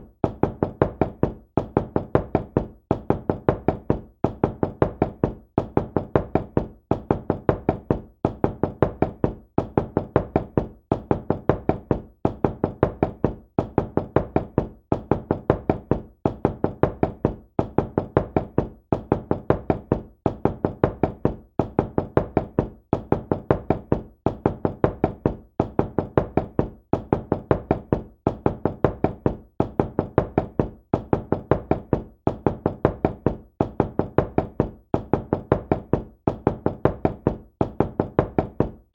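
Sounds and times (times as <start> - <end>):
knocking on a door: 0.0 - 38.9.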